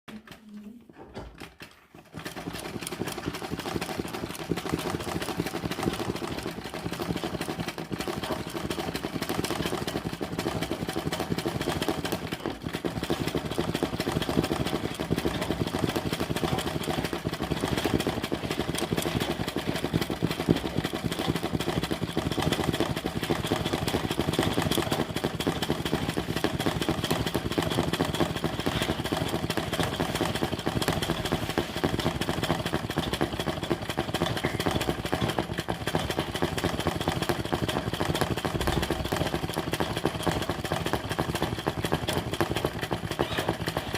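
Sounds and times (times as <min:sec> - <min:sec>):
electric sewing machine rattling: 0:01.2 - 0:43.9.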